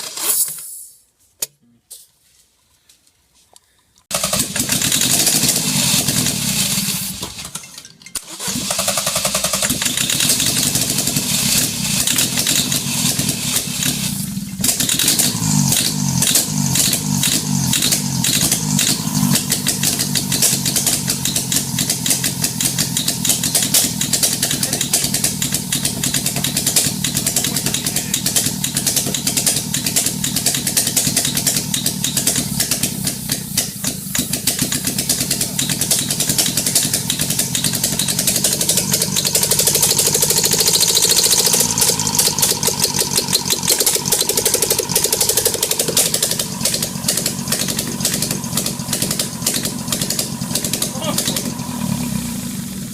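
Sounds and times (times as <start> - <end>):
car engine running: 4.1 - 7.5, 8.5 - 52.9.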